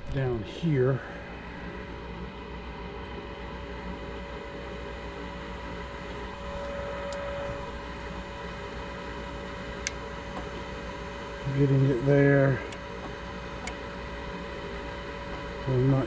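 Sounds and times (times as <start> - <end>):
furnace inducer motor humming: 0.0 - 16.0.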